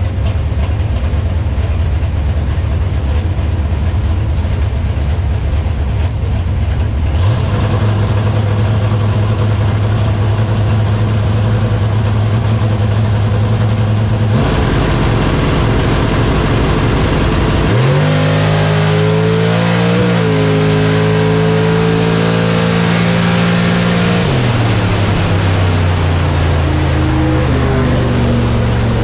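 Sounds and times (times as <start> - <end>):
race car engine revving: 3.9 - 29.0.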